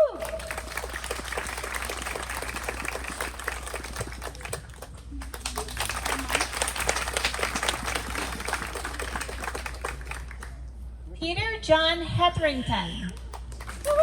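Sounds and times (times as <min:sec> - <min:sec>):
audience applauding: 0:00.0 - 0:10.6, 0:13.2 - 0:14.0.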